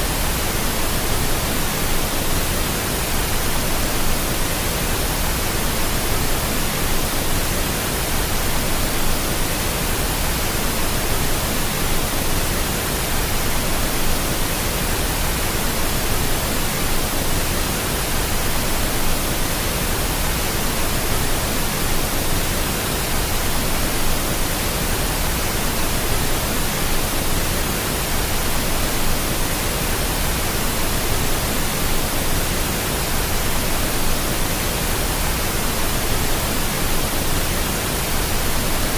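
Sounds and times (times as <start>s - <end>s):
steady pink noise hiss: 0.0s - 38.9s.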